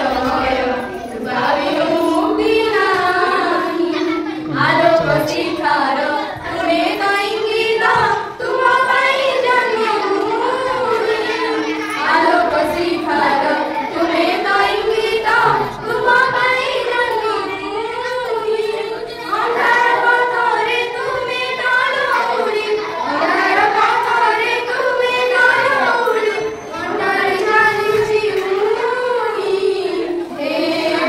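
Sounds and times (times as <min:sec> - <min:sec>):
girls singing into a microphone: 0:00.0 - 0:31.0.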